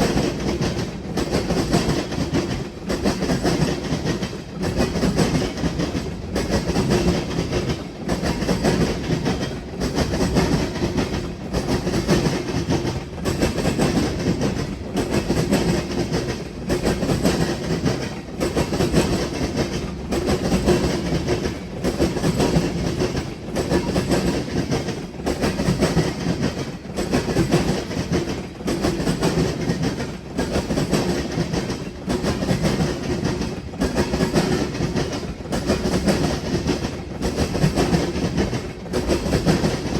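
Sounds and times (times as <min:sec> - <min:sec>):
train wheels clattering: 0:00.0 - 0:39.9.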